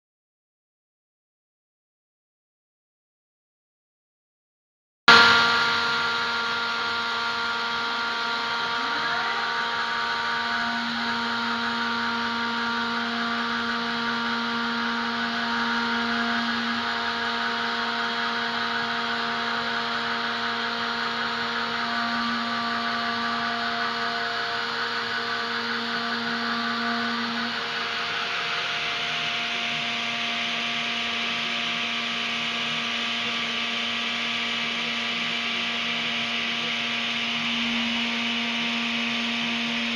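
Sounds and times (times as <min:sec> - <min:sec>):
milling machine spindle whine: 0:05.1 - 0:39.9.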